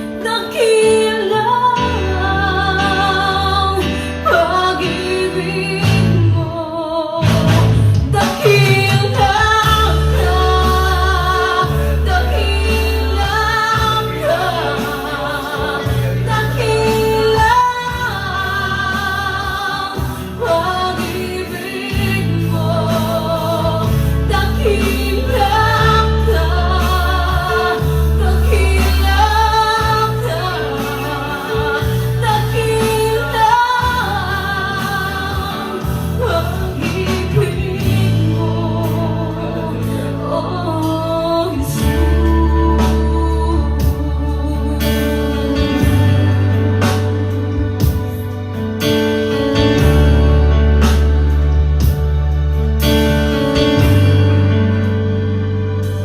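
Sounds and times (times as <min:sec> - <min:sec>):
woman singing: 0:00.0 - 0:48.3
band playing with bass: 0:00.0 - 0:56.0.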